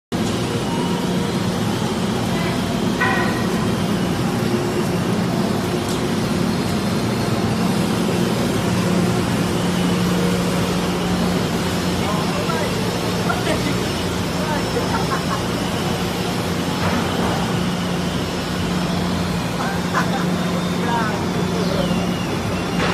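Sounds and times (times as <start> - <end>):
sanding machine running: 0.2 - 22.9.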